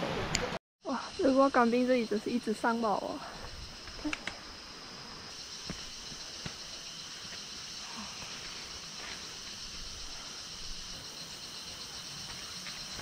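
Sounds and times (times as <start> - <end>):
high-pitched insect chorus: 0.8 - 13.0.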